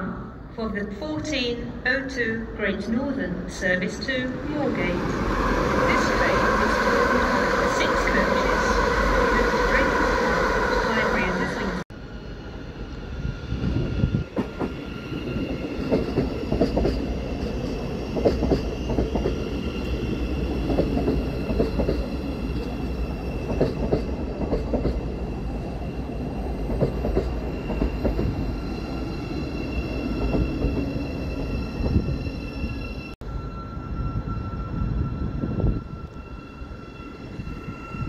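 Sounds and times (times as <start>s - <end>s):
electric train rumbling: 0.0s - 38.0s.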